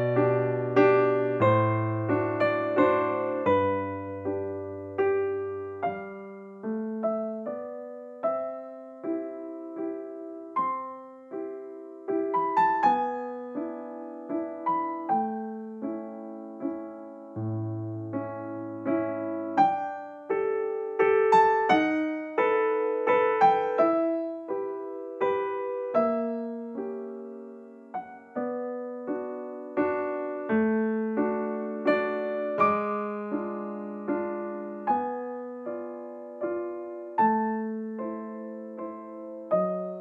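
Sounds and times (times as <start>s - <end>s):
slow piano melody: 0.0s - 40.0s.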